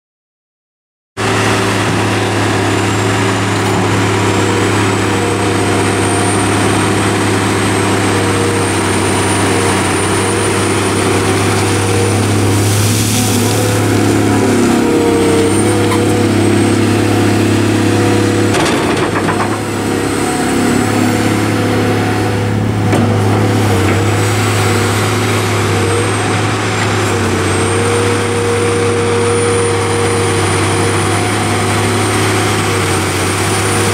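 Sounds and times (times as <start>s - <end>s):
excavator diesel engine running: 1.2s - 33.9s.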